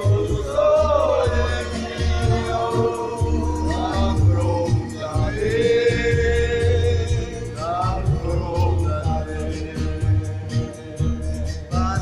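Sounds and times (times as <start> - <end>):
music over loudspeakers: 0.0 - 12.0
person singing: 0.0 - 12.0
repeated bass notes: 0.0 - 12.0.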